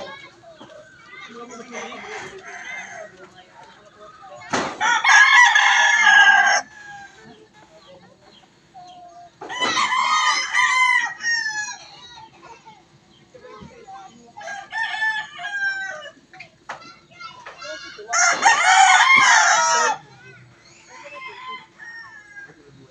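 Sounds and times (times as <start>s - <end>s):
roosters crowing: 0.0s - 7.6s, 8.3s - 12.2s, 14.1s - 16.5s, 17.1s - 22.9s.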